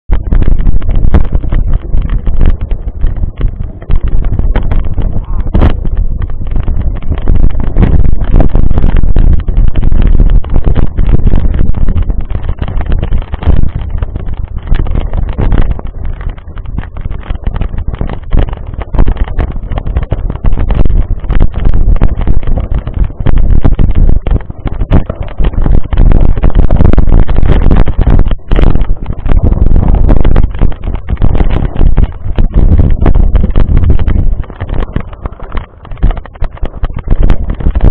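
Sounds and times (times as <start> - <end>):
wind noise on microphone: 0.0 - 37.9
bike rattling over gravel: 0.1 - 37.9.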